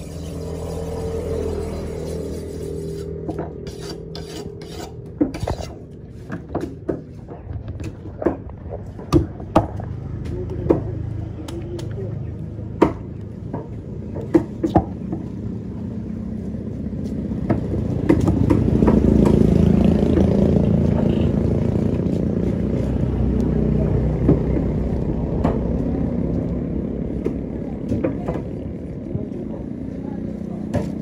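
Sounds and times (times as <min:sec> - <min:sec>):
vehicle engine running: 0:00.0 - 0:03.7, 0:05.9 - 0:31.0.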